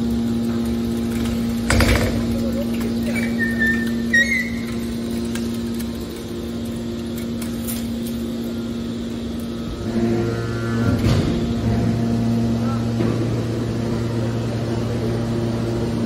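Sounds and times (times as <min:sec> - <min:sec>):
hydraulic baler humming: 0:00.0 - 0:16.0.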